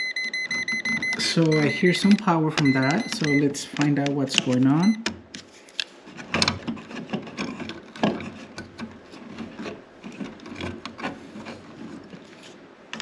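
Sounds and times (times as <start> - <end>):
wires rubbing and clicking: 0.5 - 13.0.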